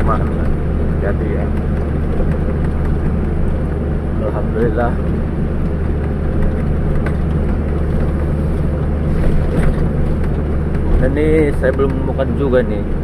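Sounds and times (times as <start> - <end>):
truck engine and tyres droning: 0.0 - 13.0.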